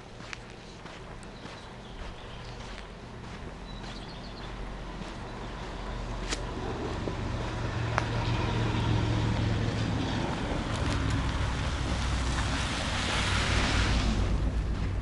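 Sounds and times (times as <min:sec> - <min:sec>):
road vehicle passing: 0:00.0 - 0:15.0.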